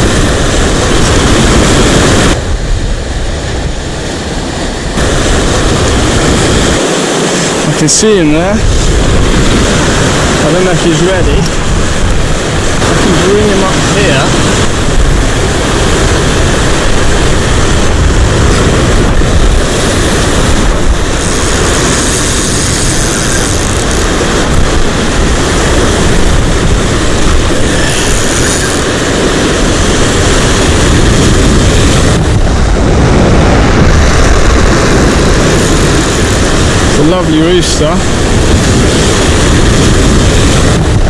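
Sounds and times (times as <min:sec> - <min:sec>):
surf: 0:00.0 - 0:41.0
wind buffeting microphone: 0:00.0 - 0:41.0.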